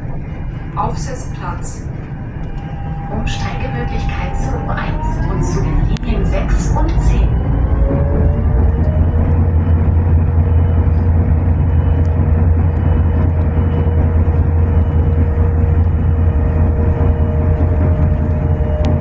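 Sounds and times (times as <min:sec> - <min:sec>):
tram rumble: 0:00.0 - 0:19.0.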